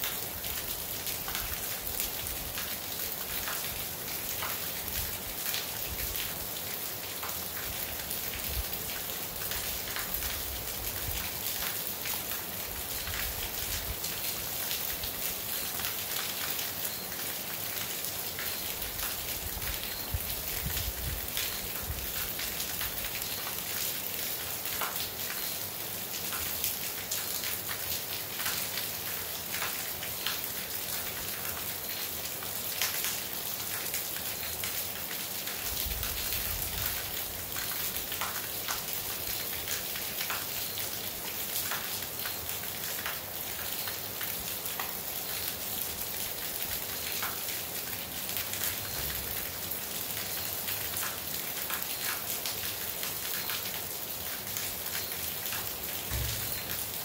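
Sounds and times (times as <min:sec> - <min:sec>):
raindrops ticking close by: 0:00.0 - 0:57.0
steady rain: 0:00.0 - 0:57.0.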